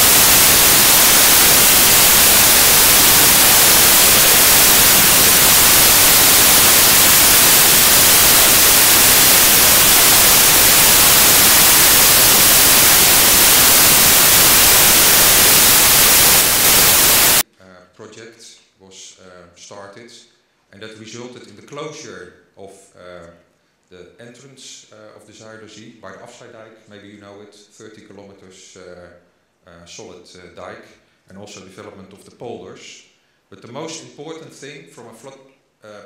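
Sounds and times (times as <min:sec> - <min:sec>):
white noise static hiss: 0:00.0 - 0:36.0.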